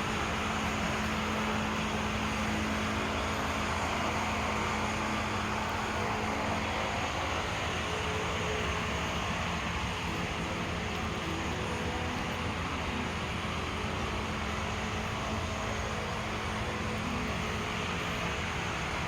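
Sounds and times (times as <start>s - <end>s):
vehicle noise: 0.0s - 19.0s.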